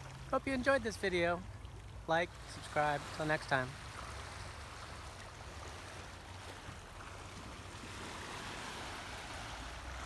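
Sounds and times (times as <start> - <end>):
waves washing onto shore: 0.0 - 10.0.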